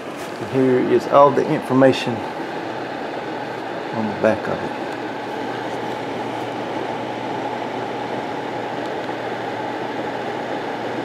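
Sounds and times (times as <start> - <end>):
electric fan rushing: 0.0 - 11.0
low steady hum: 0.0 - 11.0.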